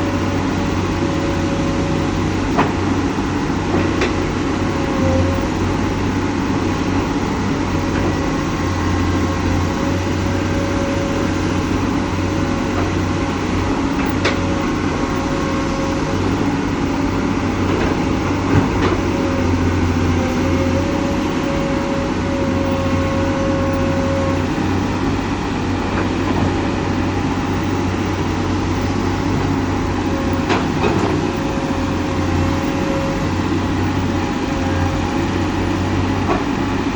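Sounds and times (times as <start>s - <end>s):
excavator engine droning: 0.0s - 36.9s.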